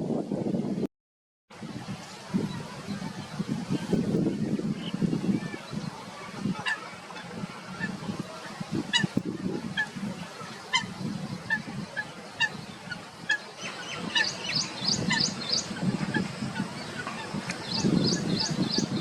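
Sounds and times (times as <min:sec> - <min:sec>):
waterbirds calling: 0:02.5 - 0:19.0.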